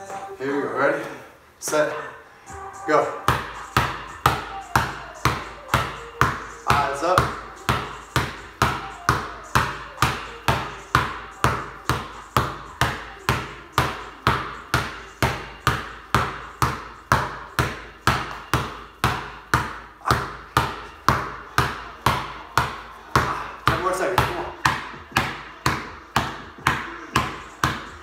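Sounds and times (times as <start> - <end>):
basketball bouncing on concrete: 3.3 - 28.0.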